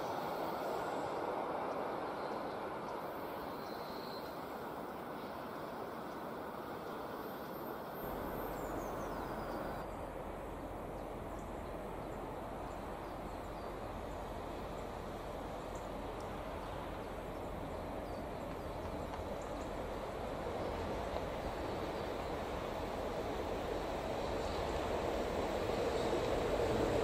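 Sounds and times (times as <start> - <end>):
outdoor background noise: 0.0 - 27.0
train approaching: 0.0 - 27.0.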